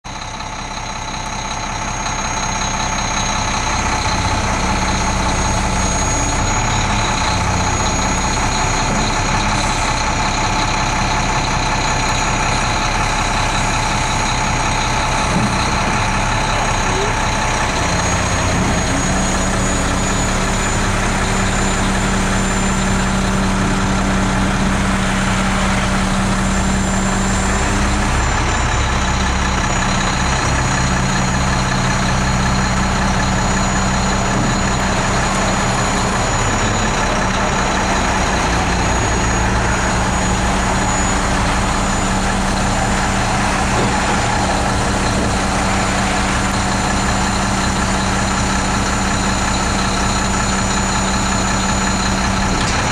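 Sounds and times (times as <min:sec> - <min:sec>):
truck engine running: 0:00.0 - 0:52.9
hydraulic arm lifting bin: 0:00.1 - 0:52.9.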